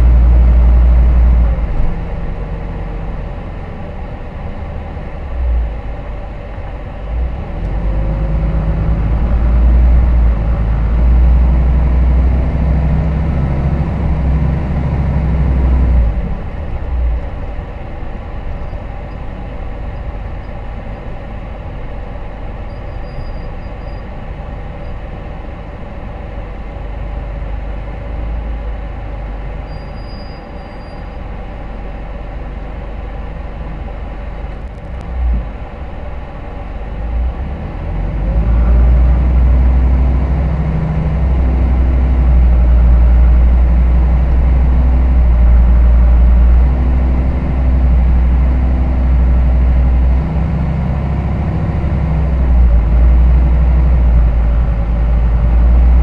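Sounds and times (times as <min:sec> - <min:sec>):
bus engine and road hum: 0:00.0 - 0:56.0
diesel engine rumble: 0:00.0 - 0:56.0.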